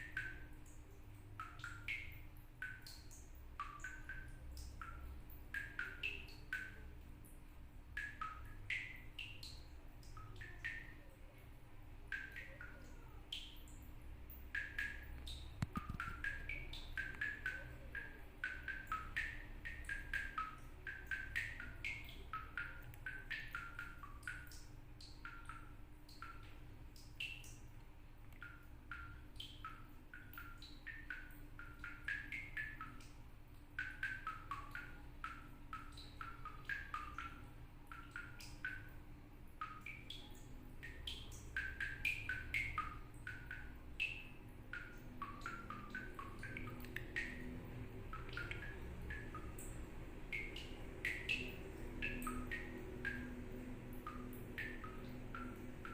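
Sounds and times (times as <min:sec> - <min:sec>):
water drops plinking from tap: 0:00.0 - 0:55.9.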